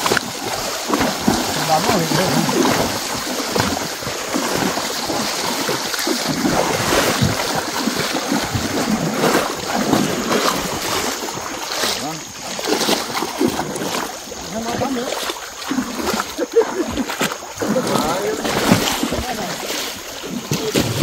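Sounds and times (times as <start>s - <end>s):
cattle splashing through water: 0.0s - 21.0s.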